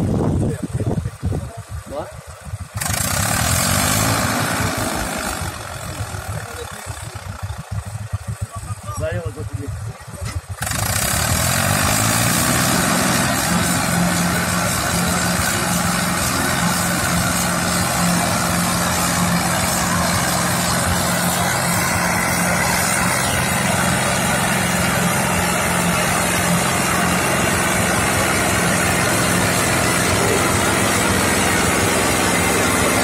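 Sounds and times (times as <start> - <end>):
tractor engine running under load: 0.0 - 33.0.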